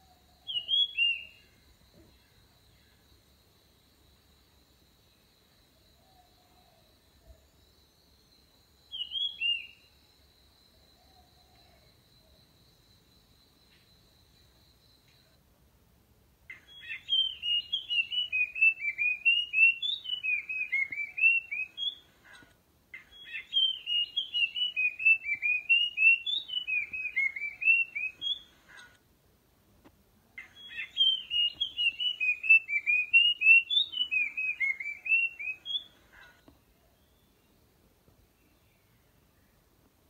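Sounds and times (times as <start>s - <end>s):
bird song of whistled notes: 0.0s - 15.3s, 16.5s - 22.4s, 23.0s - 29.0s, 30.4s - 39.7s.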